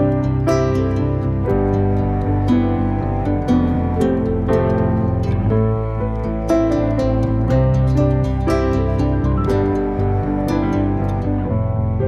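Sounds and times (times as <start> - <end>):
plucked-string tune: 0.0 - 12.0
sustained low bass: 0.0 - 12.0.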